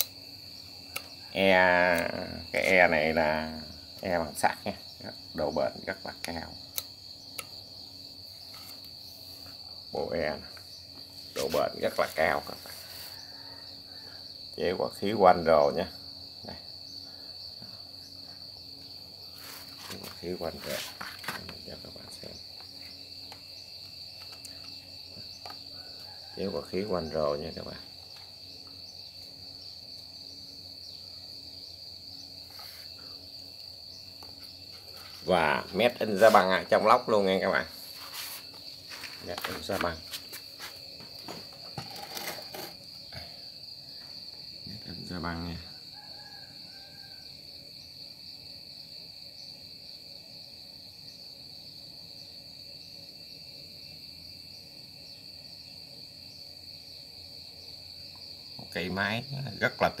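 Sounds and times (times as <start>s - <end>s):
crickets trilling: 0.0s - 60.0s.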